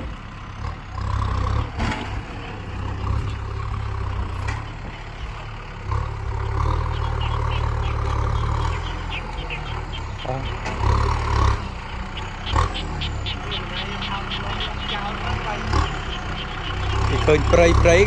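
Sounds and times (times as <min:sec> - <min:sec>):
tractor diesel engine rumbling: 0:00.0 - 0:18.0.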